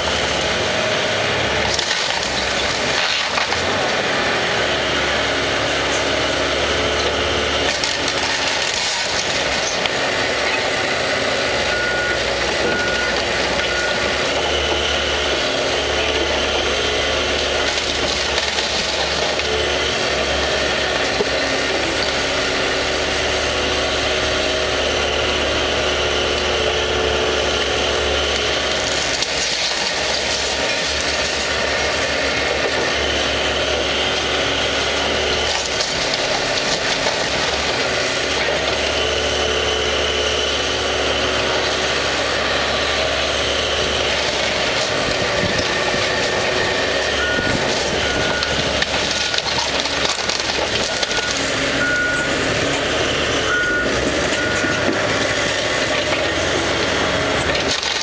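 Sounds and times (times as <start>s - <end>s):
diesel engine running under load: 0.0s - 58.0s
wooden debris scraping and crunching: 0.1s - 23.6s, 25.3s - 58.0s.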